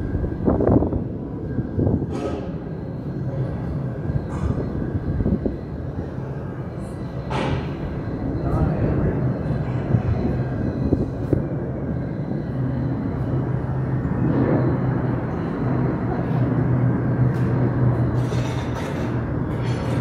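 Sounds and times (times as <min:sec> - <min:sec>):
low hum: 0:00.0 - 0:20.0
outdoor background rumble: 0:00.0 - 0:20.0.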